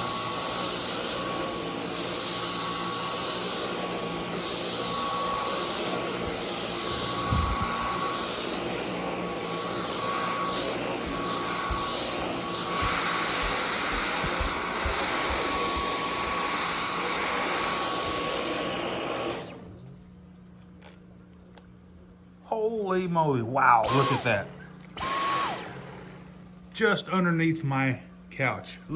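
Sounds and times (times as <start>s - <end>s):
vacuum cleaner motor whine: 0.0s - 21.0s, 23.2s - 26.6s.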